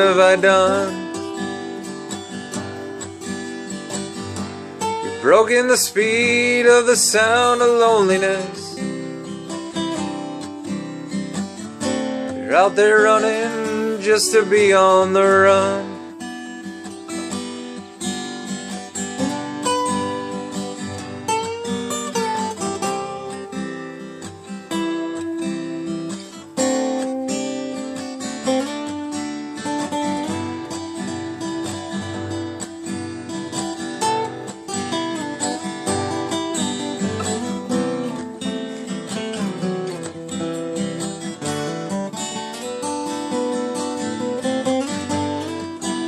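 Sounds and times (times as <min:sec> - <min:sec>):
acoustic guitar strumming and picking: 0:00.0 - 0:46.0.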